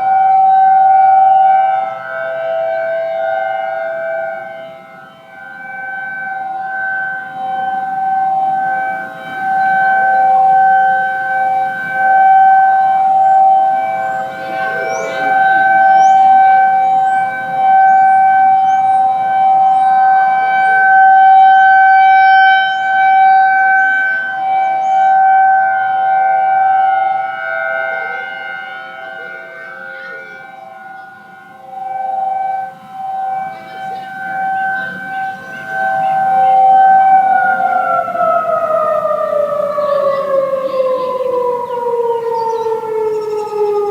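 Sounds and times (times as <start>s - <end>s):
distant warning sirens: 0.0s - 43.9s.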